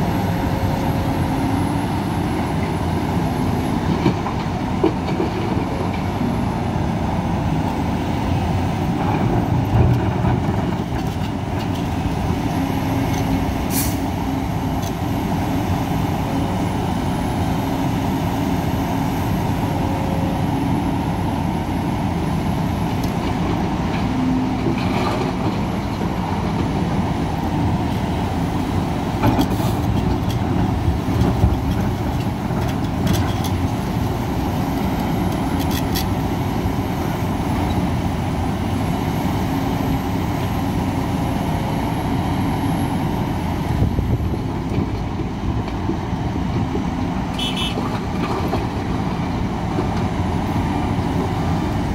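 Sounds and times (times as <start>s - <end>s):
excavator diesel engine under load: 0.0s - 51.9s.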